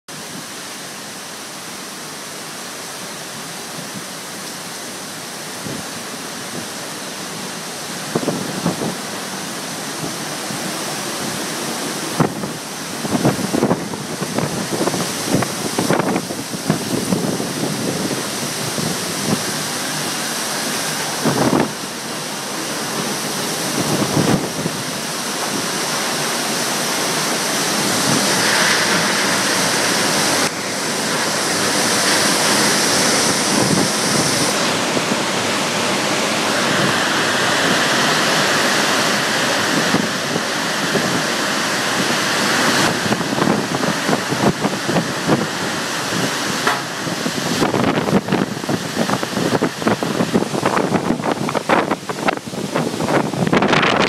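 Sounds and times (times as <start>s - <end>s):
driving rain: 0.1s - 54.0s
storm winds: 0.1s - 54.0s
wind buffeting microphone: 7.9s - 54.0s.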